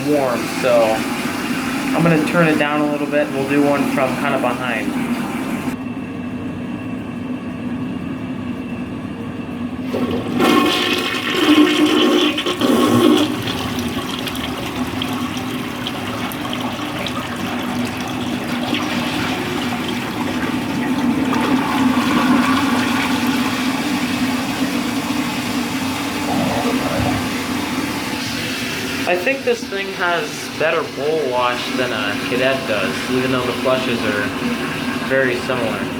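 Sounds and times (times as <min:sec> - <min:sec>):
toilet flushing: 0:00.0 - 0:05.8, 0:09.8 - 0:35.9
water rushing as bowl refills: 0:00.0 - 0:05.8, 0:09.9 - 0:35.9.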